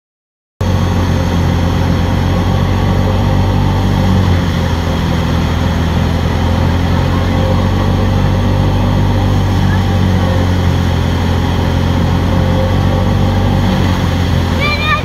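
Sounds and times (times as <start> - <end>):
thresher drum and blower whirring: 0.6 - 15.0
tractor engine running: 0.6 - 15.0.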